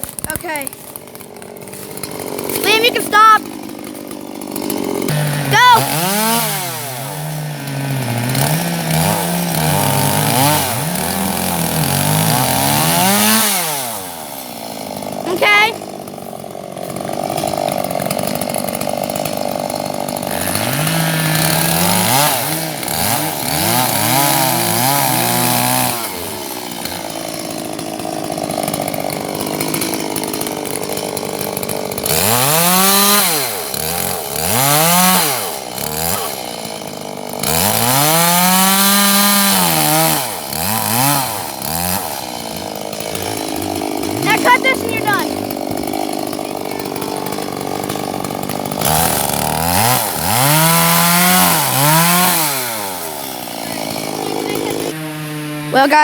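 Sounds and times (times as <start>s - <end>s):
chainsaw idling and revving: 0.0s - 56.0s.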